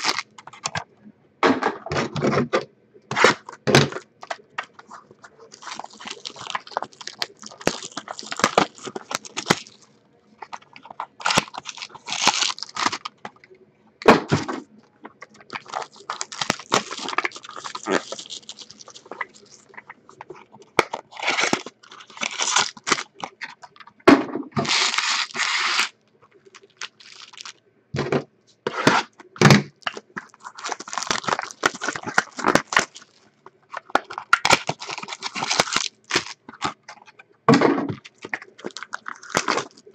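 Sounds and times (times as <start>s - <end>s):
wrappers crinkling and tearing: 0.0s - 0.8s, 3.1s - 13.4s, 15.1s - 23.9s, 24.6s - 27.6s, 28.9s - 37.2s, 38.0s - 39.9s.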